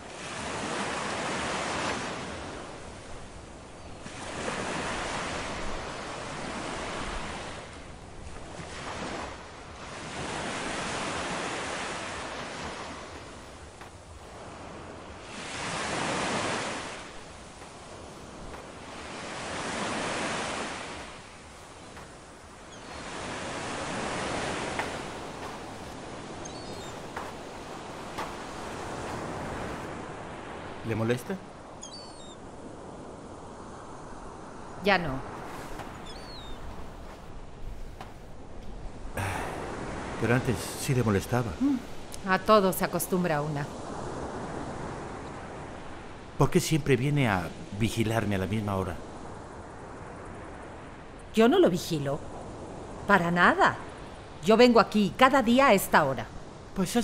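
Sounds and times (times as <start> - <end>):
ocean surf on a beach: 0.0 - 57.0.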